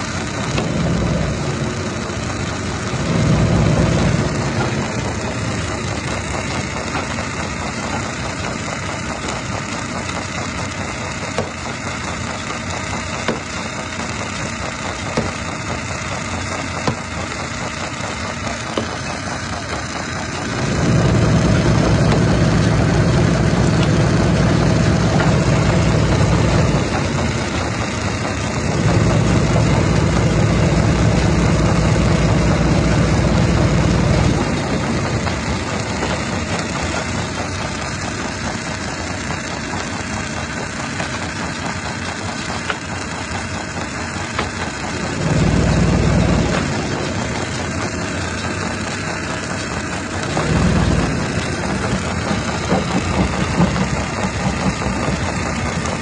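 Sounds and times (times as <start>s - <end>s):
heavy low rumbling: 0.0s - 10.3s, 15.3s - 39.8s, 43.0s - 56.0s
jaw crusher clattering: 0.0s - 56.0s.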